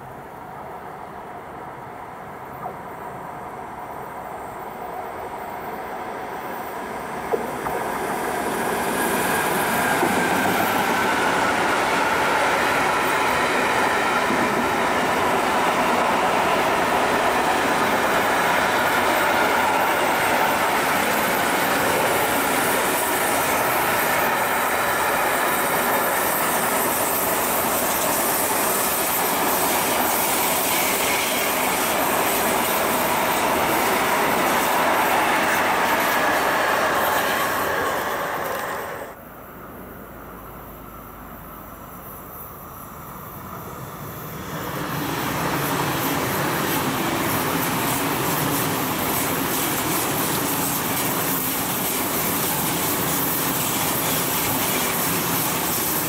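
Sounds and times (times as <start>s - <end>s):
train wheels rumbling on rails: 0.0s - 39.2s, 41.9s - 56.0s.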